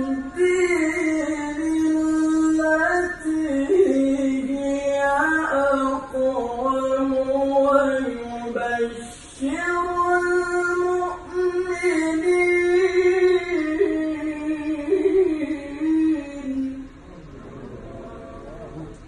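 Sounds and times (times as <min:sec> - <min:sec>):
man reciting melodically: 0:00.0 - 0:17.1.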